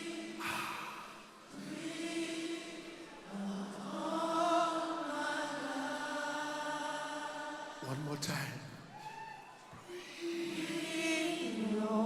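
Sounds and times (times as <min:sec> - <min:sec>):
congregation singing unaccompanied: 0:00.0 - 0:08.6, 0:09.8 - 0:12.0.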